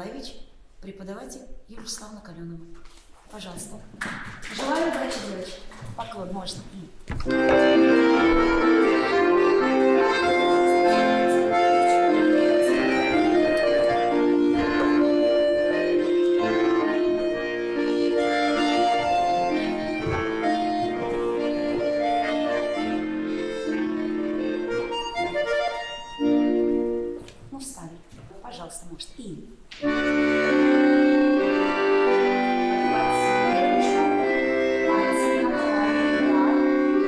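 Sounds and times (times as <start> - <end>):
accordion folk dance tune: 4.6 - 27.8, 29.7 - 37.0.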